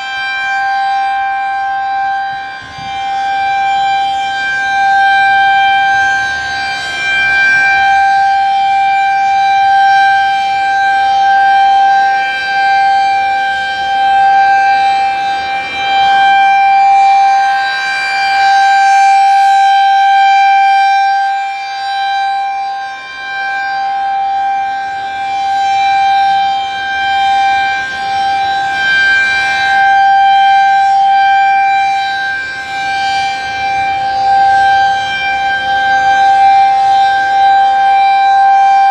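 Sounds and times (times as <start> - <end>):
rotating siren wailing: 0.0 - 38.9.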